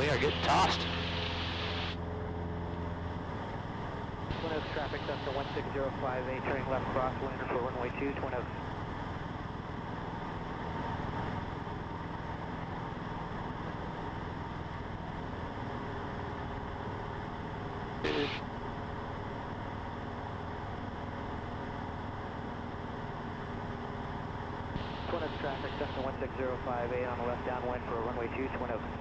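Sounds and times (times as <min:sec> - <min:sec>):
airplane engine and propeller droning: 0:00.0 - 0:29.0.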